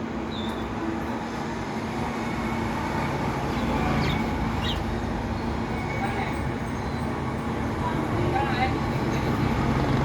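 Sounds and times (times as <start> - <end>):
vehicle rumble: 0.0 - 10.0.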